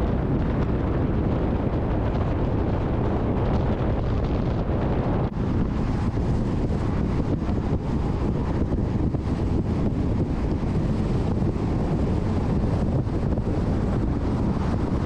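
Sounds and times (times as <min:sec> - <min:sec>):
road and wind noise in car: 0:00.0 - 0:15.0.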